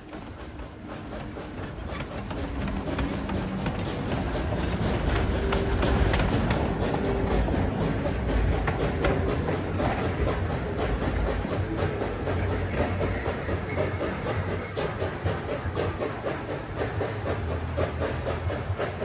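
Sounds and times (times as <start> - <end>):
train wheels clicking over rail joints: 0.0 - 19.0.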